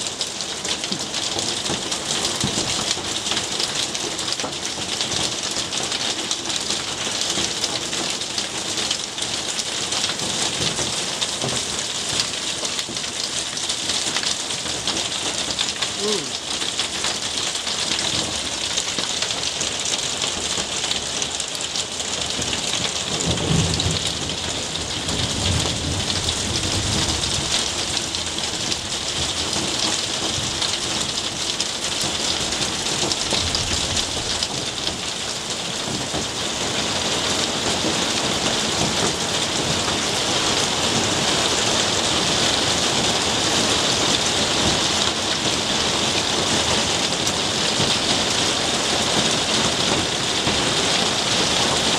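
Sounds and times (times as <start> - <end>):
heavy rain on foliage and paving: 0.0 - 51.9.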